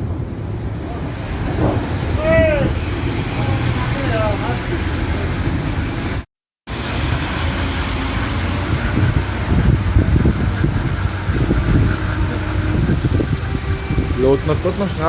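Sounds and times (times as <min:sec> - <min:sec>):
storm wind buffeting microphone: 0:00.0 - 0:06.2, 0:08.4 - 0:15.0
rain: 0:00.0 - 0:15.0.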